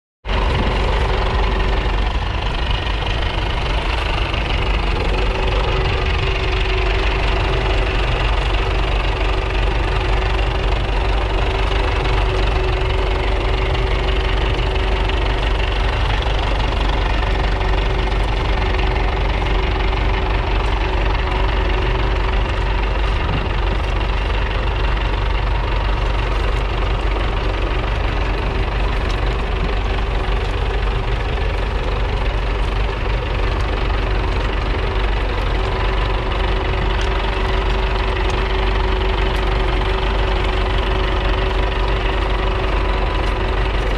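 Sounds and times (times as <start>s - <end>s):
tractor engine running: 0.2s - 43.9s.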